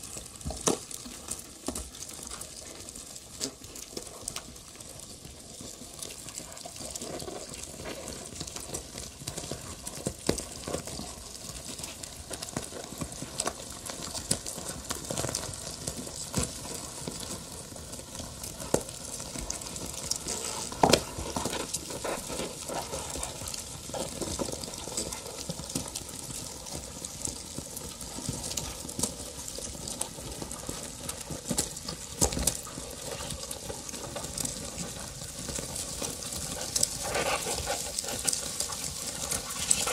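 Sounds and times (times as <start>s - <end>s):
crackling and rustling noise: 0.0s - 39.9s.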